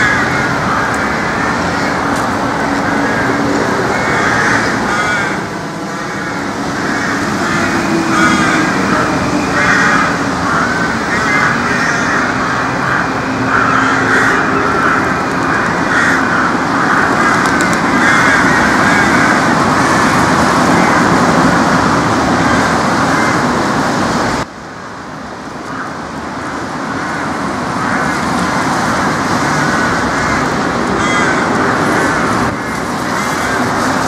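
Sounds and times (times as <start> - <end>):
crows cawing: 0.0 - 21.3, 22.4 - 23.5, 25.6 - 34.0
loud steady rushing noise: 0.0 - 34.0.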